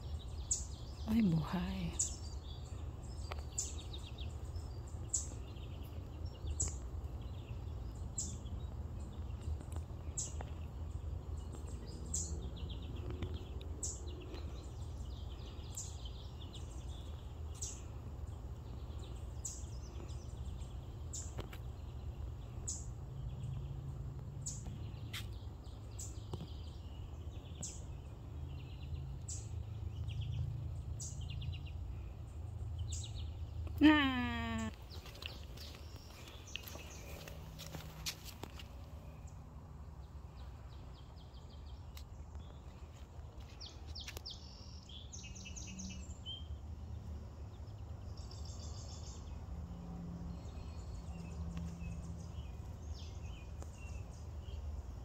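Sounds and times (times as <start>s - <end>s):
bird twittering trills: 0.0s - 39.4s, 40.0s - 49.6s.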